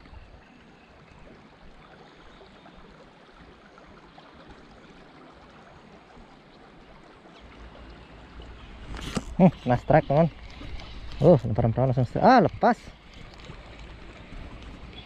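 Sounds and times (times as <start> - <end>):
soft riverside hiss: 0.0 - 15.0.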